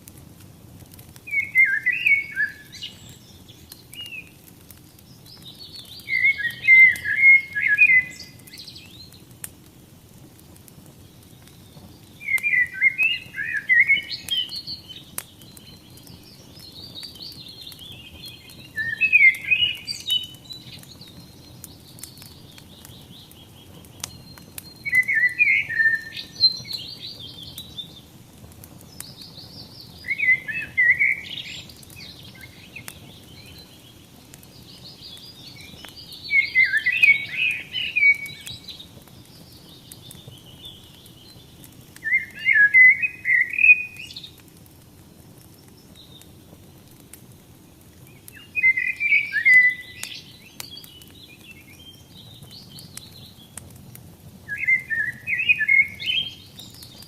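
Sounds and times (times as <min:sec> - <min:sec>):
wood fire crackling and popping: 0:00.0 - 0:57.0
songbird chirping: 0:01.2 - 0:09.3, 0:11.2 - 0:28.1, 0:28.8 - 0:44.4, 0:48.0 - 0:53.6, 0:54.5 - 0:57.0.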